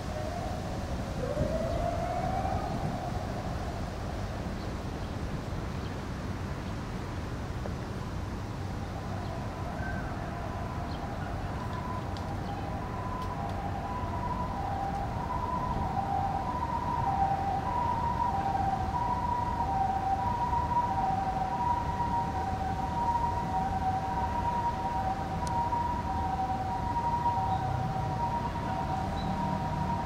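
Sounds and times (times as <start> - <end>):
ambulance two-tone siren: 0.0 - 4.2, 9.0 - 30.0.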